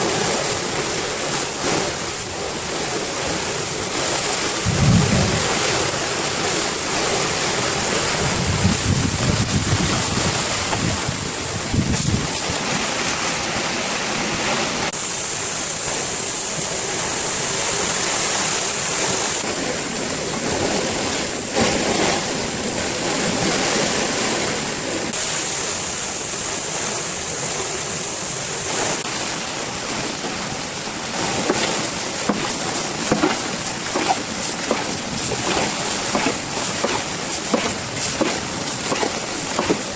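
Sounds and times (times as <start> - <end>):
heavy rain in strong wind: 0.0 - 39.9.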